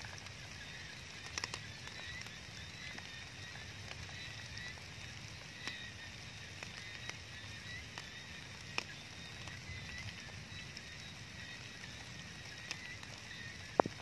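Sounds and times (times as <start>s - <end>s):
water drops falling from leaves: 0.0s - 14.0s.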